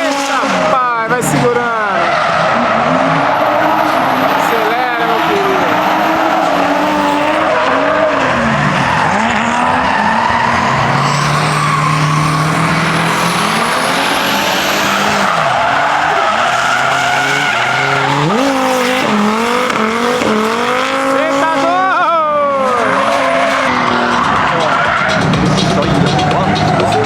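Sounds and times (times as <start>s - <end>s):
car engine revving: 0.0s - 27.0s
tyres squealing on tarmac: 0.0s - 27.0s.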